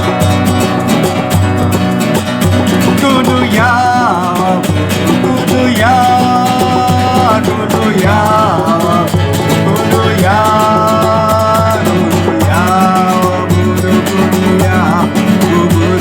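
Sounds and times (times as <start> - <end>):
strummed acoustic guitar: 0.0 - 16.0
person singing long notes: 3.1 - 16.0.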